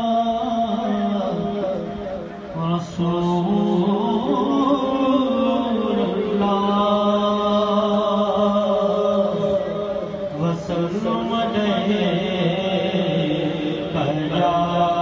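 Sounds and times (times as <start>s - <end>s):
man chanting devotional song: 0.0s - 15.0s.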